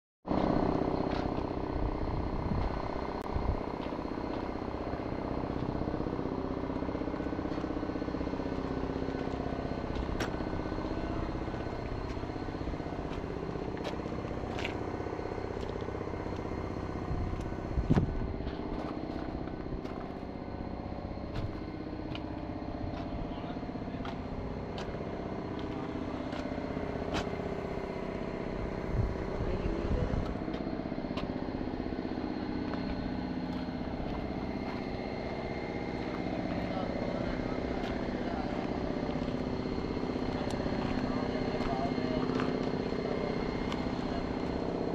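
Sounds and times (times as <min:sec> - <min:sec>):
motor running: 0:00.3 - 0:44.9.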